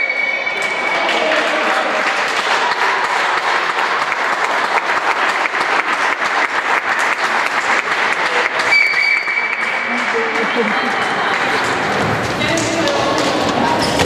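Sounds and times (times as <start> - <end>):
crowd applauding: 0.5 - 13.3.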